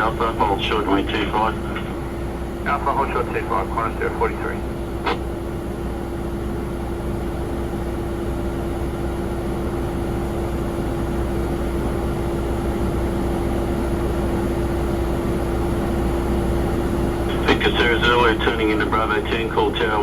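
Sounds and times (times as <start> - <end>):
jet aircraft engine noise: 0.0 - 20.0.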